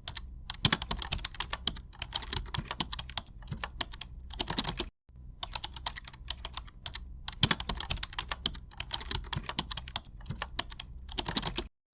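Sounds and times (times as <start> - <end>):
fast typing on keyboard: 0.0 - 11.7.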